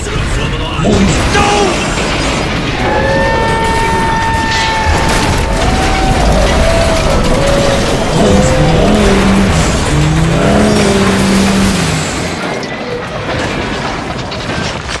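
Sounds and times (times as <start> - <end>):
train crashing and grinding: 0.4 - 15.0.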